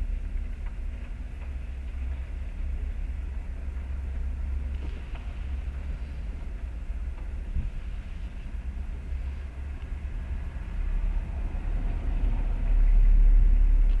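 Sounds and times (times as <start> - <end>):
vehicle rumble inside car: 0.0 - 14.0
car passing close: 2.8 - 14.0.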